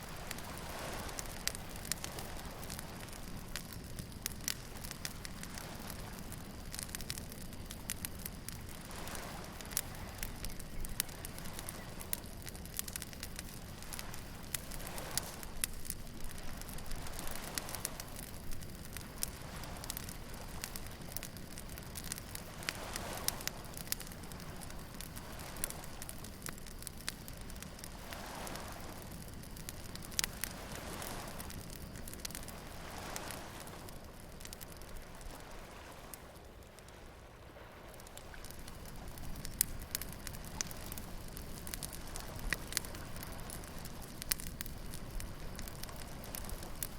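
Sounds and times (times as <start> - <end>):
bonfire crackling and popping: 0.0 - 46.9
waves washing in: 0.0 - 46.9.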